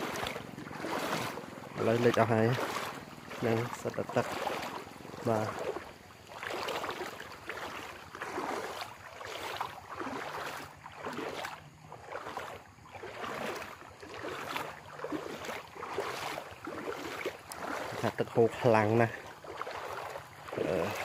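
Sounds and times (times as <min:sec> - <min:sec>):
floodwater sloshing and splashing: 0:00.0 - 0:21.0.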